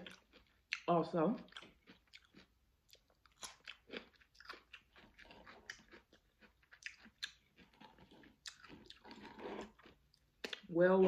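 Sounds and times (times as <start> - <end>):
chewing raw cucumber crunches: 0.0 - 10.7.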